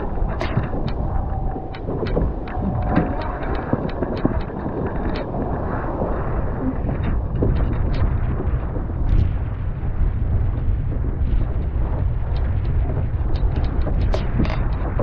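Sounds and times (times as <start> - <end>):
water rushing past hulls: 0.0 - 15.0
wind buffeting microphone: 0.0 - 15.0.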